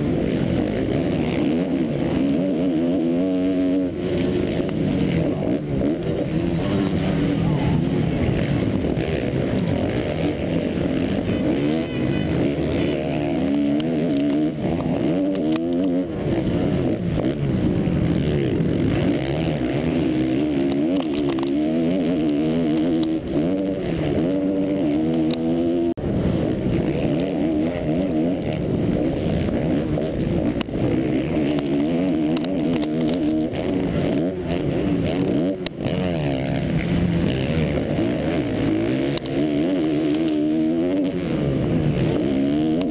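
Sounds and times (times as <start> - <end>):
motocross engine revving: 0.0 - 42.9.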